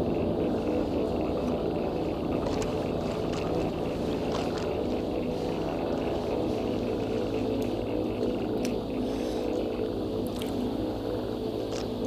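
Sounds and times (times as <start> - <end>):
wavering droning hum: 0.0 - 12.0.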